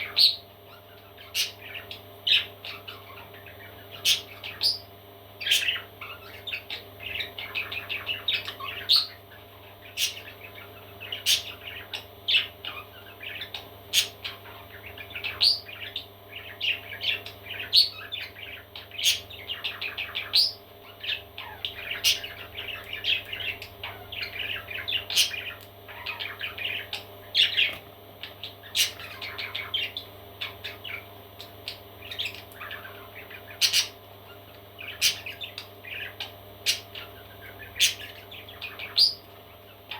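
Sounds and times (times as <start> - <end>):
parrot chicks chirping: 0.0 - 39.9
steady low hum: 0.0 - 39.9.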